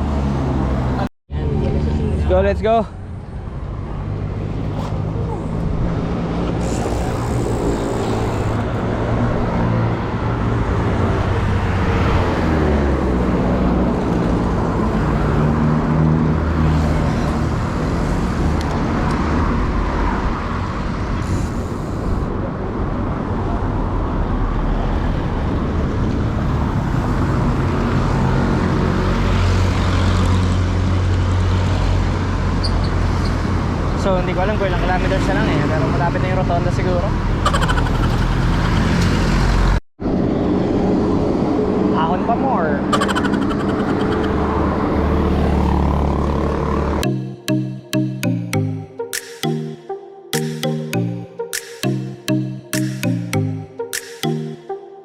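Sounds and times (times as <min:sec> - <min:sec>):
vehicles passing: 0:00.0 - 0:49.0
steady roadway noise: 0:00.0 - 0:54.6.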